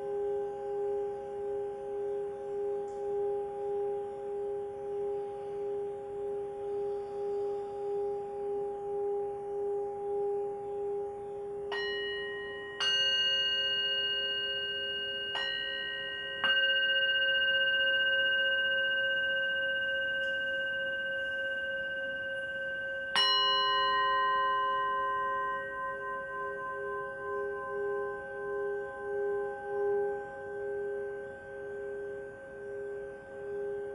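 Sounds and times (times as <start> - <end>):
low bowl tone wavering: 0.0 - 33.9
singing bowls struck with mallet: 0.0 - 33.9.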